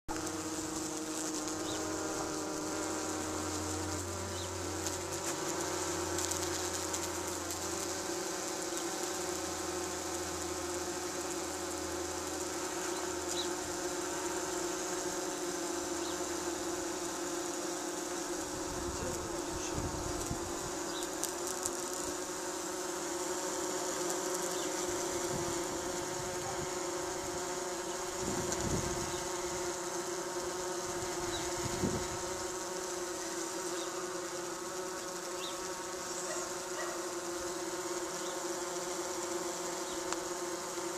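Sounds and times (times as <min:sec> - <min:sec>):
bumblebees buzzing: 0:00.1 - 0:40.9.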